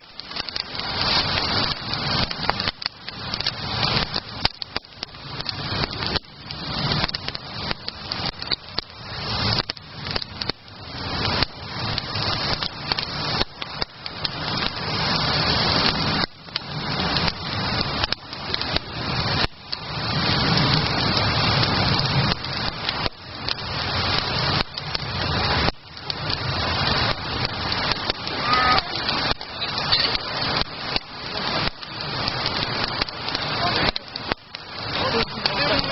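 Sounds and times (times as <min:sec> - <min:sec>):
campfire crackling and popping: 0:00.0 - 0:35.9
rushing hiss of fire: 0:00.0 - 0:35.9.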